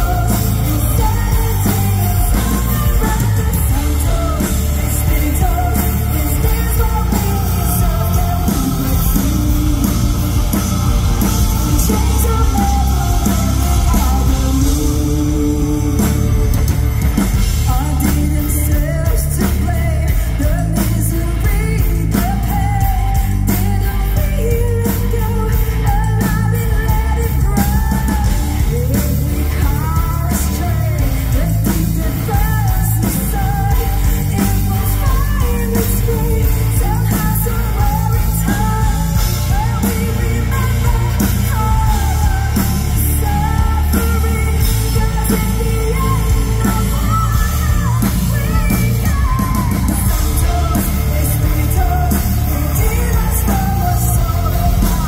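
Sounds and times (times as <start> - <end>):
live metal band playing: 0.0 - 55.0
woman singing: 0.0 - 55.0.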